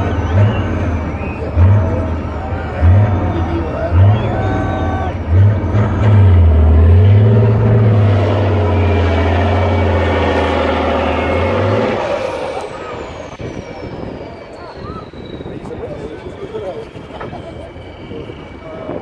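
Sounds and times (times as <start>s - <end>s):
faint falling whistle: 0.0s - 5.2s, 8.0s - 19.0s
truck engine revving: 0.0s - 19.0s.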